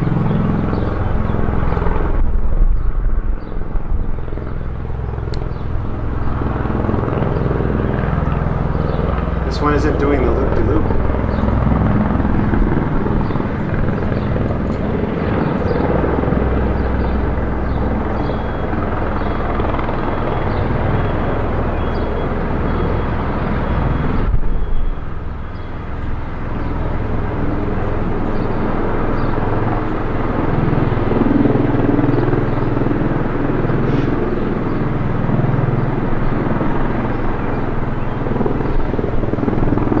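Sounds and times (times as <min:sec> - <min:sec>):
tiltrotor aircraft drone: 0:00.0 - 0:40.0.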